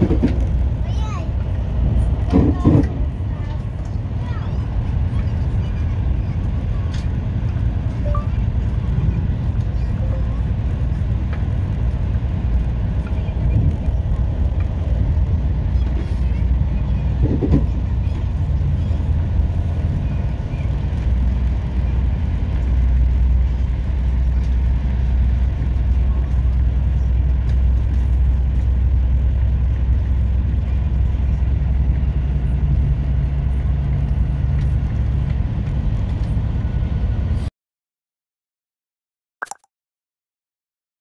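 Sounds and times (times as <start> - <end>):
train rumble inside carriage: 0.0 - 37.5.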